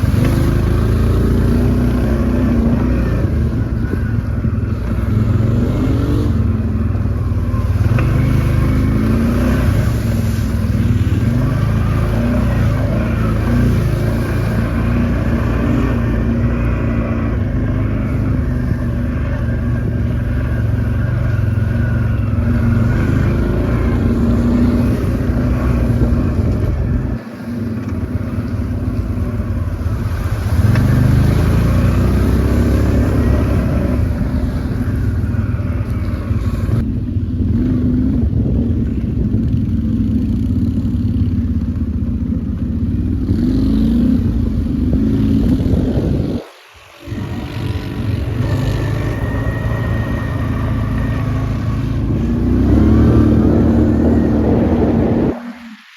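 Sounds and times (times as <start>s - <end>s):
quad bike engine revving: 0.0s - 55.6s.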